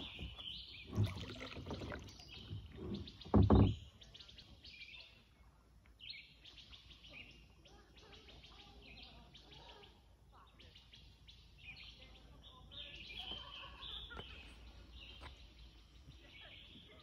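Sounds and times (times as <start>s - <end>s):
faint outdoor background: 0.0s - 17.0s
songbirds chirping: 0.0s - 17.0s.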